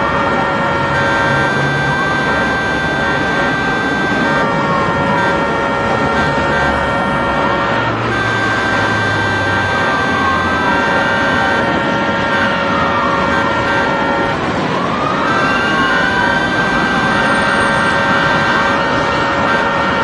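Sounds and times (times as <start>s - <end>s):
horn-like tones: 0.0s - 20.0s
siren wailing: 0.0s - 20.0s
traffic rush: 0.0s - 20.0s.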